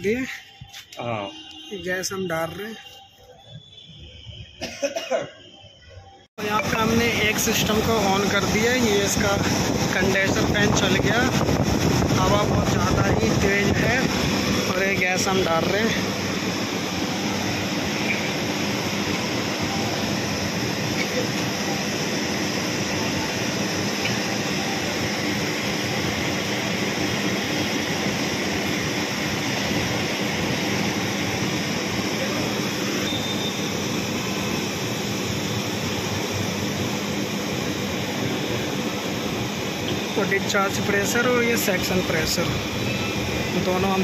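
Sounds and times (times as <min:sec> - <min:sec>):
mechanical hum: 0:00.0 - 0:44.0
air conditioner fan rushing air: 0:06.4 - 0:44.0.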